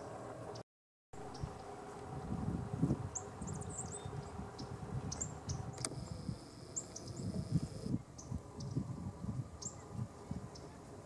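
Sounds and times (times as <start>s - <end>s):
low gusty rumble: 1.2s - 11.0s.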